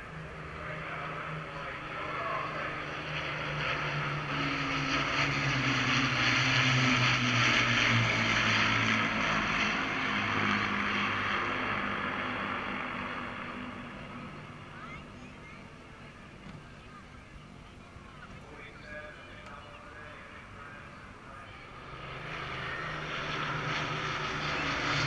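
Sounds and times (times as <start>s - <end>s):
propeller planes droning overhead: 0.0s - 25.0s.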